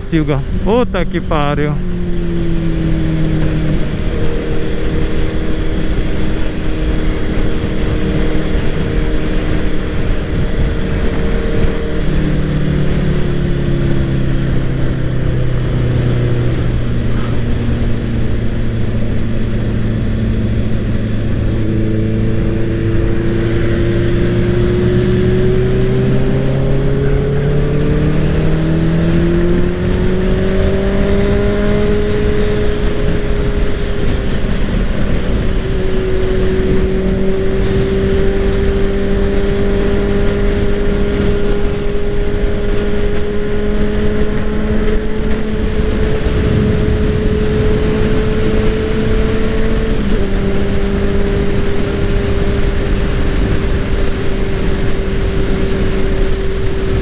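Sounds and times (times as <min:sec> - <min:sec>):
motorcycle engine at speed: 0:00.0 - 0:57.0
wind rushing over microphone: 0:00.0 - 0:57.0.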